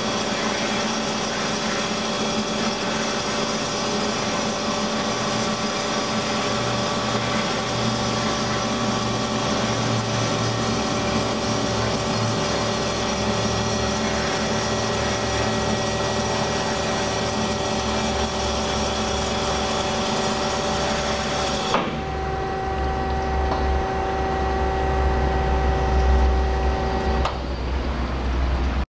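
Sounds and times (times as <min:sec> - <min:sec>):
bandsaw whine and hum: 0:00.0 - 0:28.8.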